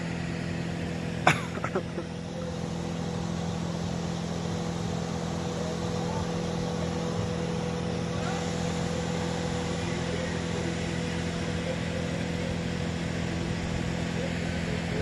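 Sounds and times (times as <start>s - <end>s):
hoist engine humming: 0.0s - 15.0s.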